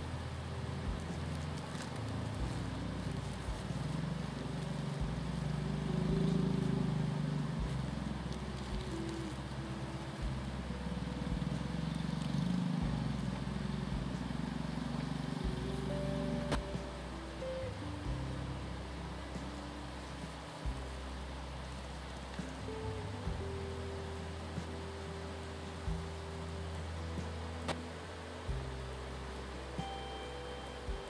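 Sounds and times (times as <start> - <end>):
low steady hum: 0.0 - 31.0
soft background music: 0.0 - 31.0.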